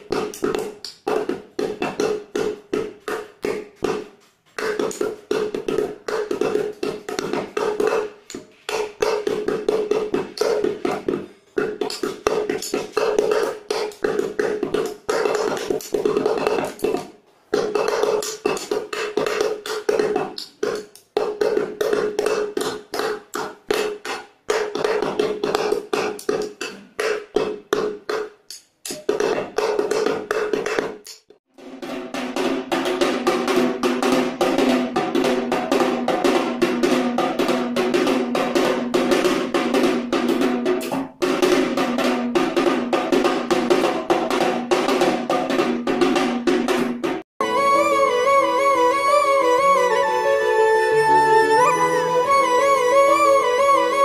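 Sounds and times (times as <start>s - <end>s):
small wooden drum beaten: 0.0s - 8.2s, 8.8s - 28.2s, 29.0s - 47.3s.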